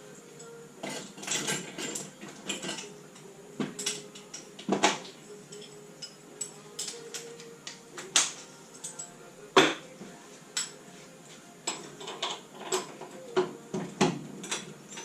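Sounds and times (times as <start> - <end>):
metal tools clinking and knocking: 0.4 - 9.8, 10.6 - 10.8, 11.6 - 15.0.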